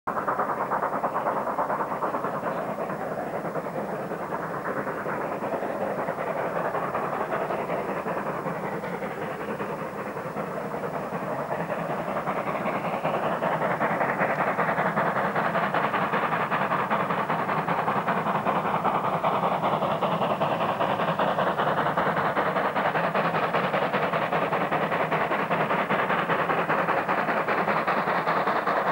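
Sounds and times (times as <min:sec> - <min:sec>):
steam locomotive chuffing: 0:00.1 - 0:28.9.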